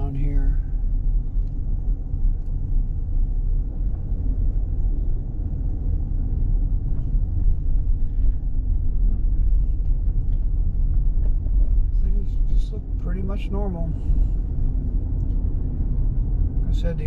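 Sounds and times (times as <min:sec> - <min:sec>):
car driving at low speed: 0:00.0 - 0:17.0.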